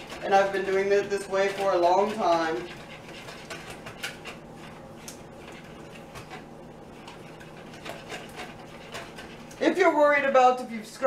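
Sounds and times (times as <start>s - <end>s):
whisk tapping against bowl: 0.0s - 9.8s.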